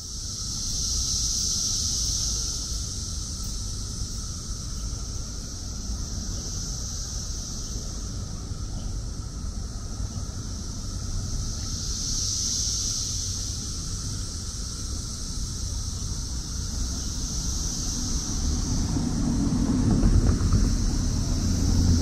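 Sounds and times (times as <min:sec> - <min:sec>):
cicadas chorus: 0:00.0 - 0:22.0
wind rumble on microphone: 0:00.0 - 0:22.0.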